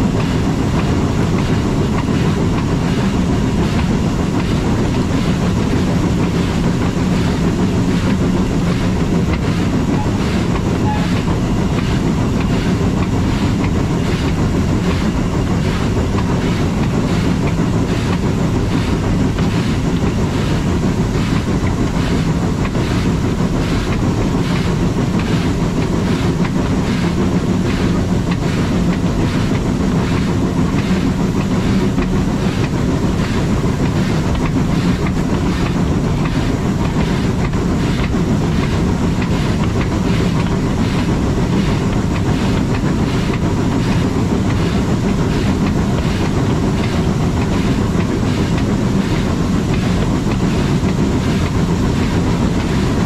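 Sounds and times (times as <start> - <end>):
continuous low rumble: 0.0 - 53.0
steam train running: 0.0 - 53.0.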